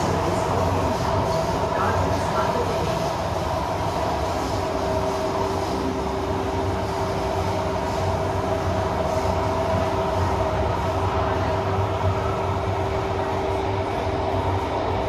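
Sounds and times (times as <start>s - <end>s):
train rumbling with motor whine: 0.0s - 15.0s.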